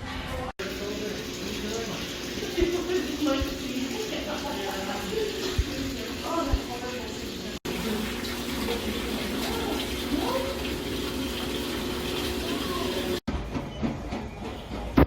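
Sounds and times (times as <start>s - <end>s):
running water rushing: 0.6s - 13.3s.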